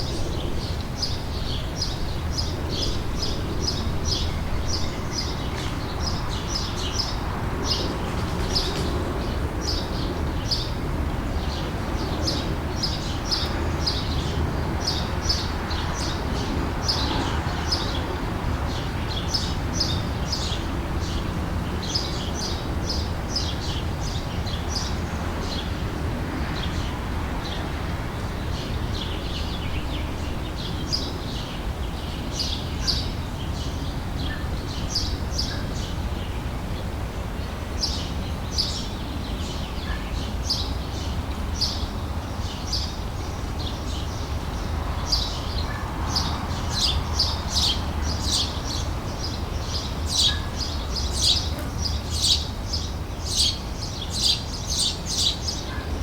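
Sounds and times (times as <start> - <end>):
small birds chirping: 0.0 - 27.7, 37.4 - 56.0.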